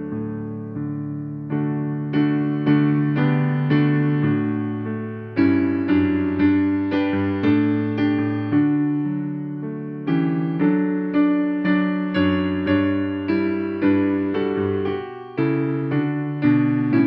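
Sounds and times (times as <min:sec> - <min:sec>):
piano playing hymn tune: 0:00.0 - 0:17.0.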